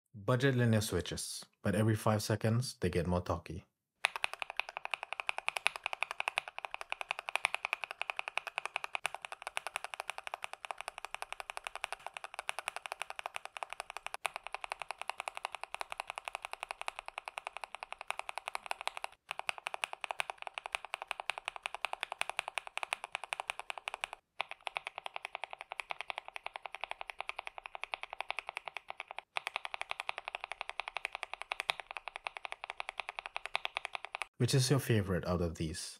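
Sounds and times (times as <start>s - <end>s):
mechanical keyboard typing: 4.0s - 34.4s.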